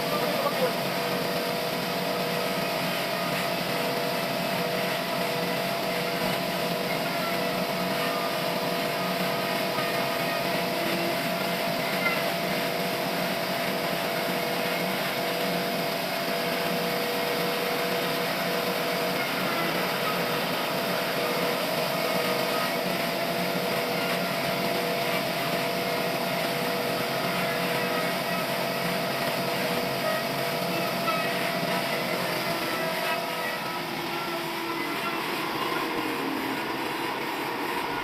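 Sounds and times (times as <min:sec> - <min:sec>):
sawmill machinery droning: 0:00.0 - 0:38.0.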